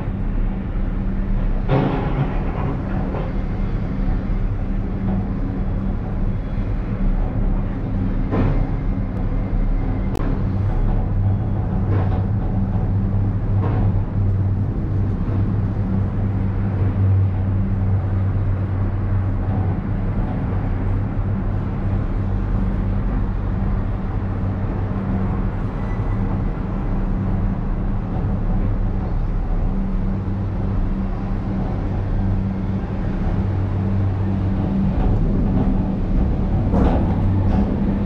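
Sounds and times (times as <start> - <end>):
cable car low hum: 0.0 - 38.0.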